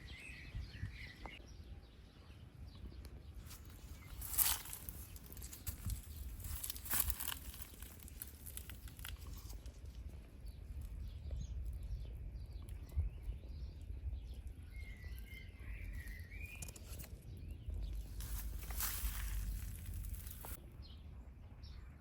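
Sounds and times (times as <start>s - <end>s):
wind rumble on microphone: 0.0s - 21.0s
small birds chirping: 0.0s - 22.0s.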